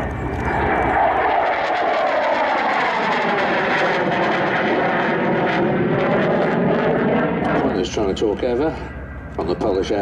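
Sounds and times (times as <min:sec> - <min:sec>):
jet flying past overhead: 0:00.0 - 0:10.0.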